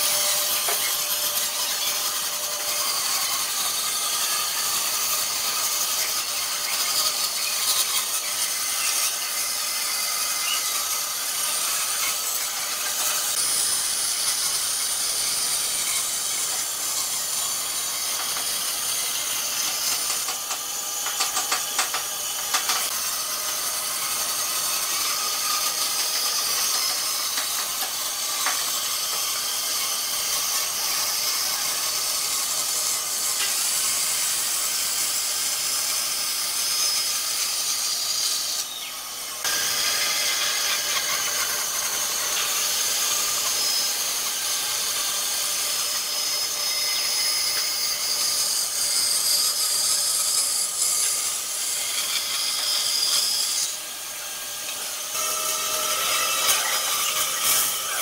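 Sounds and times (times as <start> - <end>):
bandsaw cutting wood: 0.0 - 58.0.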